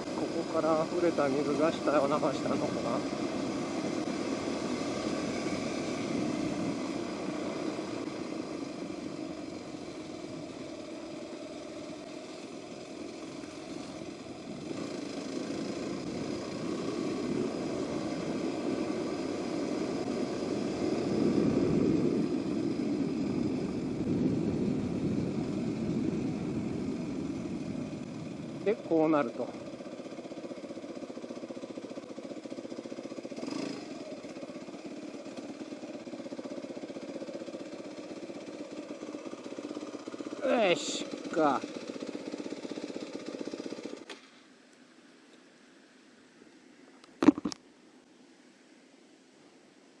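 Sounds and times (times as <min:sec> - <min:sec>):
off-road motorcycle engine running: 0:00.0 - 0:44.5, 0:47.1 - 0:47.6.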